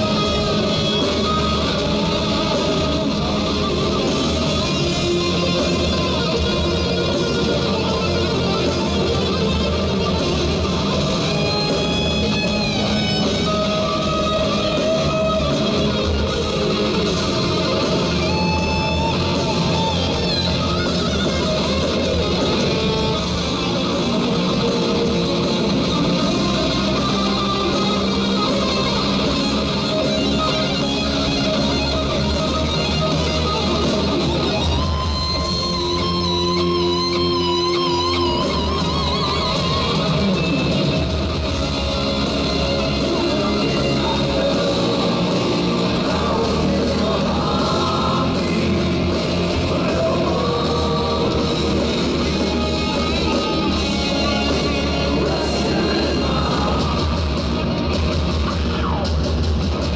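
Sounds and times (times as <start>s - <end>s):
live hard rock band: 0.0s - 59.9s.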